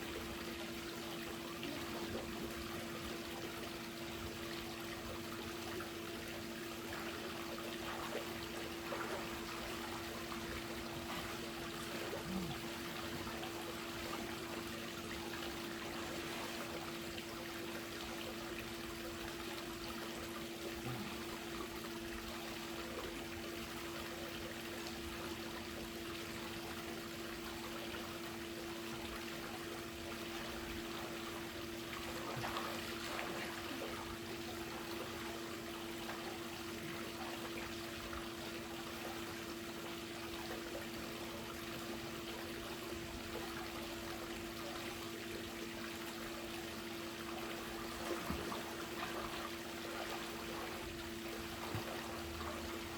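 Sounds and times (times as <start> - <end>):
steady low hum: 0.0 - 52.9
water trickling into a pool: 0.0 - 52.9.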